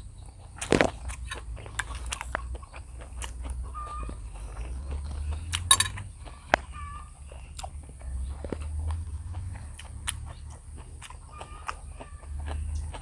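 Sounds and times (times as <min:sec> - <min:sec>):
chickens clucking: 0:00.0 - 0:13.0
clicks and smacks of eating: 0:00.2 - 0:13.0.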